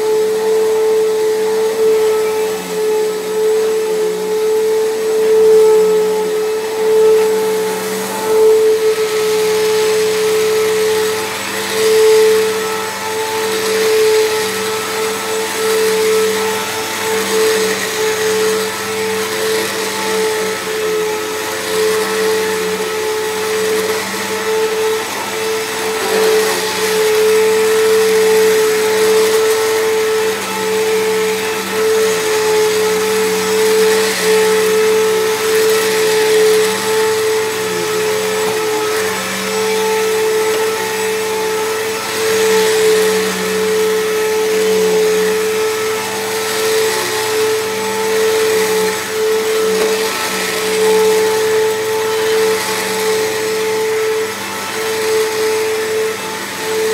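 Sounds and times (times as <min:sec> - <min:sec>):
vacuum cleaner running on carpet: 0:00.0 - 0:56.9.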